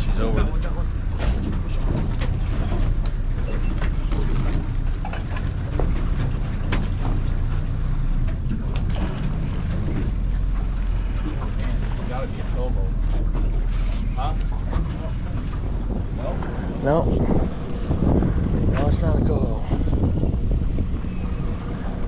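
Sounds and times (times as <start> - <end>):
boat motor rumbling: 0.0 - 22.0.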